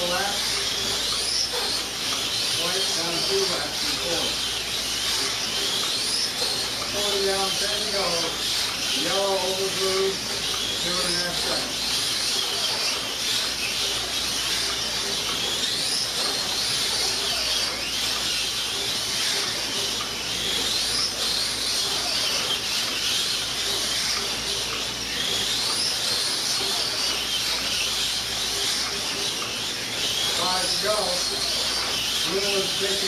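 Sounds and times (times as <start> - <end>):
slot car motors whining: 0.0 - 33.0.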